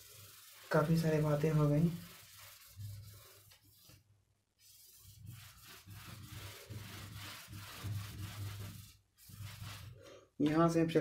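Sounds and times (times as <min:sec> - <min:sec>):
duster rubbing whiteboard: 0:00.0 - 0:04.0, 0:04.6 - 0:10.0.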